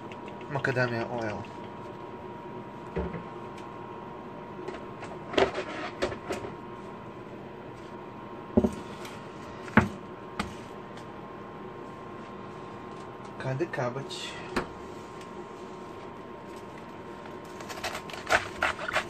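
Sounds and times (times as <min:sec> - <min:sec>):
induction burner whine: 0:00.0 - 0:19.0.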